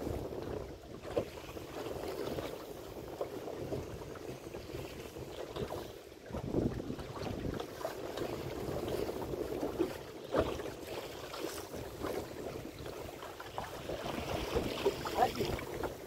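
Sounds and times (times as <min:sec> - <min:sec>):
waves washing against hull: 0:00.0 - 0:16.0
wind buffeting microphone: 0:00.0 - 0:16.0.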